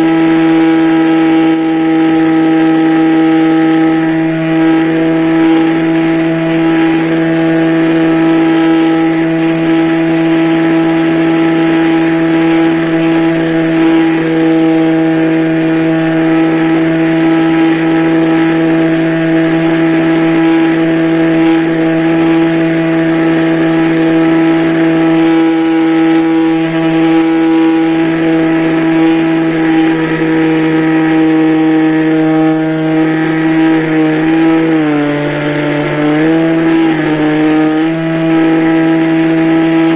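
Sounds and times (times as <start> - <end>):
model airplane motor running: 0.0 - 39.9.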